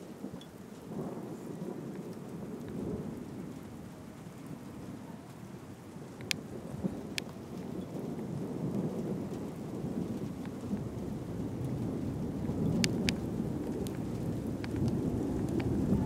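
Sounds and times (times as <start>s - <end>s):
rain: 0.0s - 16.0s
thunder rumbling: 0.0s - 16.0s.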